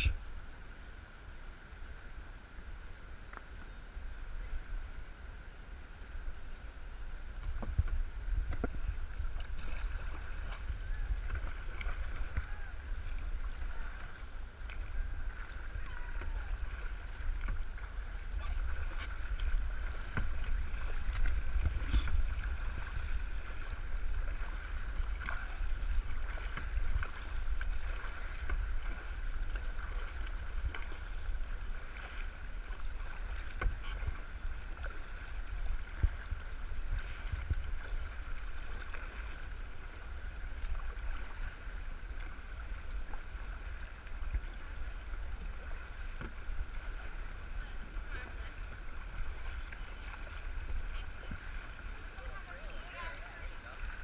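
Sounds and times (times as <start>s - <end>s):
water rumbling: 0.0s - 54.0s.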